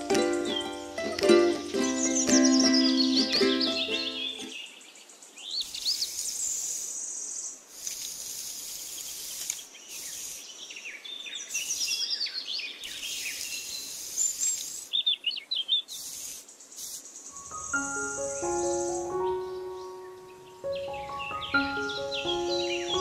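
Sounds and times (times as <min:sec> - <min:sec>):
steady hiss: 0:00.0 - 0:21.2
songbirds chirping: 0:00.0 - 0:23.0.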